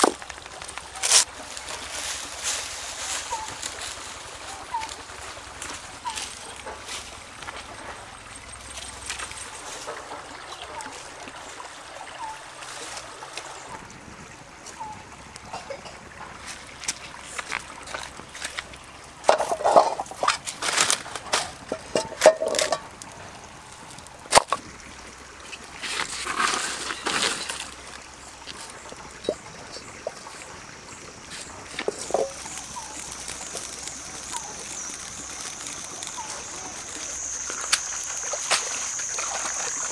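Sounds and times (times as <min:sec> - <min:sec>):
dry sticks and leaves rustling: 0:00.0 - 0:08.0, 0:08.6 - 0:11.3, 0:16.4 - 0:24.7, 0:25.4 - 0:39.9
water trickling over rocks: 0:00.0 - 0:39.9.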